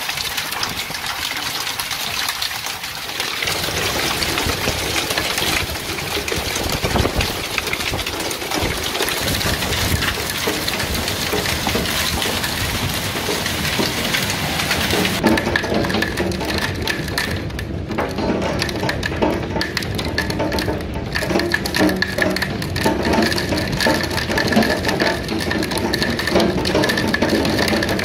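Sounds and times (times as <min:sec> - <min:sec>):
hail pelting a wooden deck: 0:00.0 - 0:28.0
rain: 0:00.0 - 0:28.0.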